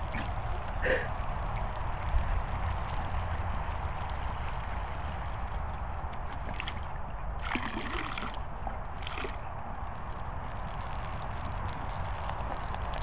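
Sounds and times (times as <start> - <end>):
garden hose spraying onto grass: 0.0 - 13.0
water splashes: 0.0 - 13.0.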